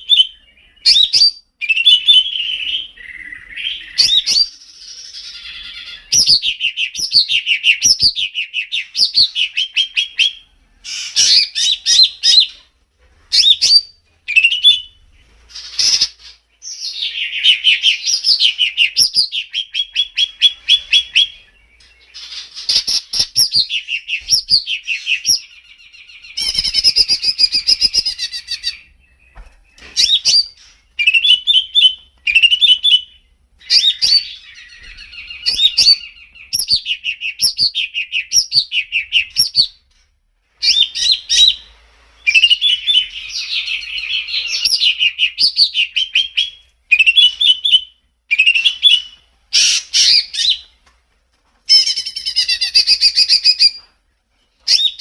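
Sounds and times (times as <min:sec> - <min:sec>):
songbird whistling and chirping: 0:00.0 - 0:12.7, 0:13.3 - 0:39.9, 0:40.6 - 0:50.8, 0:51.7 - 0:55.0.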